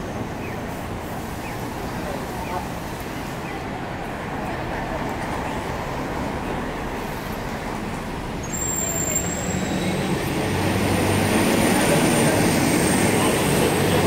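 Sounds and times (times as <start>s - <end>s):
heavy vehicle engine: 0.0s - 14.0s
road traffic: 0.0s - 14.0s.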